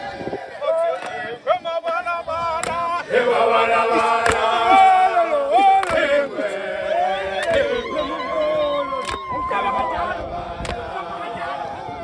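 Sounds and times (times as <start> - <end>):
men chanting and singing: 0.0 - 12.0.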